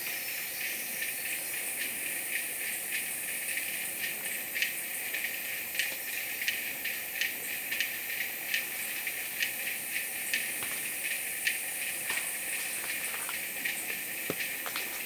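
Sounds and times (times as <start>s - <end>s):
insect chirps: 0.0s - 15.0s
insects hissing: 0.0s - 15.0s.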